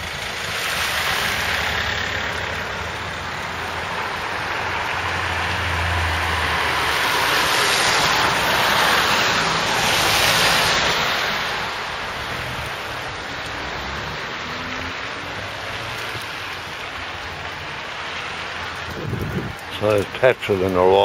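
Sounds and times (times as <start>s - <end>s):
rain hissing on wet street: 0.0s - 21.0s.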